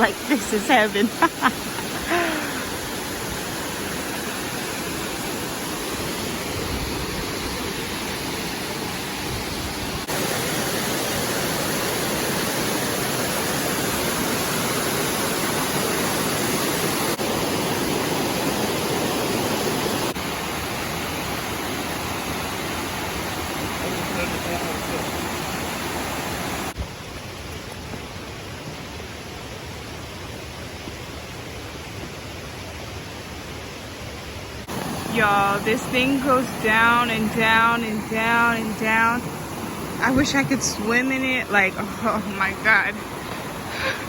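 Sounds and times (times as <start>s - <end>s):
waterfall rushing down rock: 0.0s - 33.4s, 34.6s - 44.0s.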